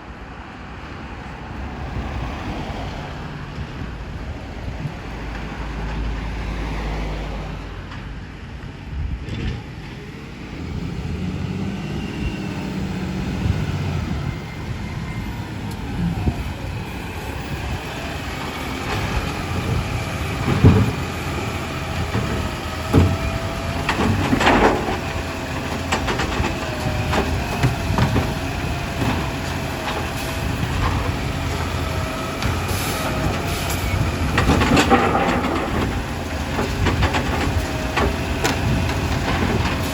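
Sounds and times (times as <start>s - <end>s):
garbage truck engine rumble: 0.1s - 39.9s.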